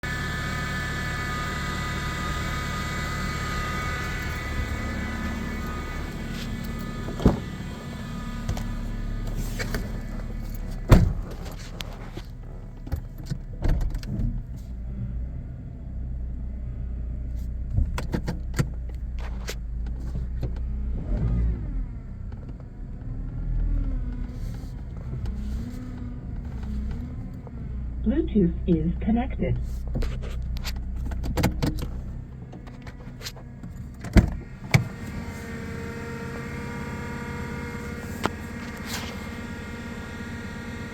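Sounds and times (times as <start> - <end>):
high whine of car: 0.0 - 40.9.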